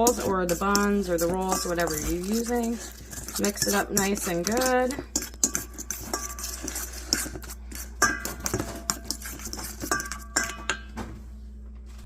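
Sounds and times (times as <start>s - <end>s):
utensil clinking and scraping bowl: 0.0s - 11.0s.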